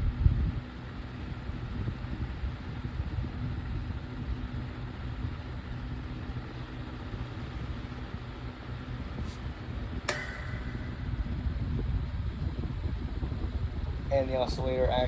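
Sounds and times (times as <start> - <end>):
table fan running: 0.0 - 15.0.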